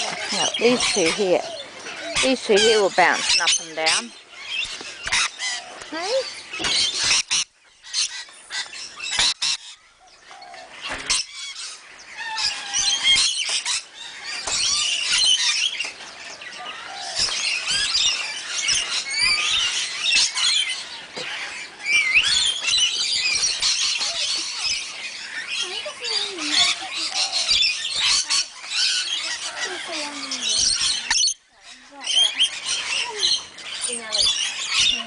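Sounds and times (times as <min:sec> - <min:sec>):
birds chattering and screeching: 0:00.0 - 0:35.0.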